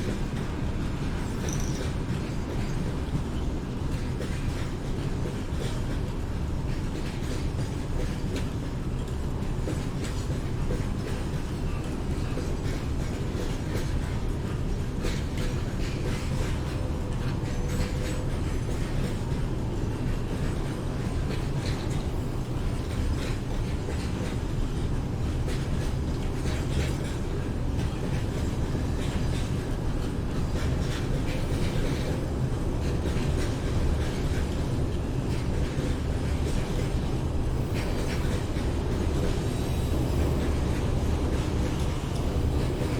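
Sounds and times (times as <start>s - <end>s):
train rumbling on rails: 0.0s - 42.9s
wheels clicking over rail joints: 0.0s - 42.9s.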